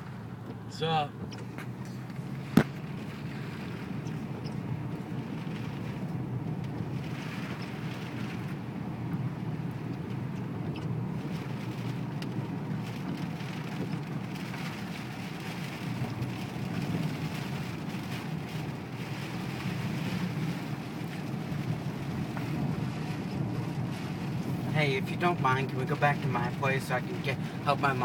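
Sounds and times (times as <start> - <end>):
road and wind noise in car: 0.0 - 28.0.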